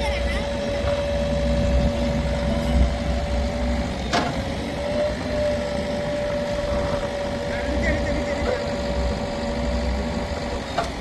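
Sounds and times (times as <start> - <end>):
heavy diesel engine running: 0.0 - 11.0
steady whine: 0.0 - 11.0.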